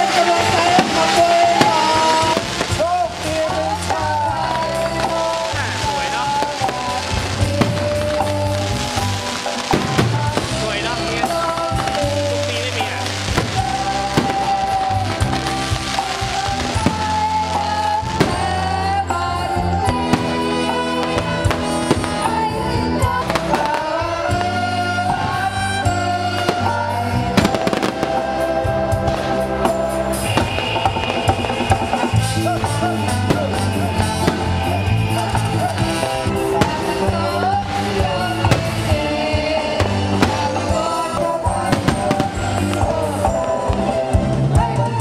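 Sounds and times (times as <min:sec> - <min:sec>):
fireworks exploding: 0:00.0 - 0:45.0
music with held bass line: 0:00.0 - 0:45.0.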